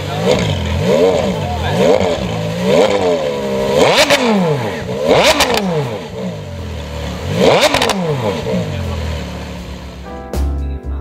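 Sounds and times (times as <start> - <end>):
car engine idling: 0.0 - 10.1
car engine revving: 0.0 - 10.1.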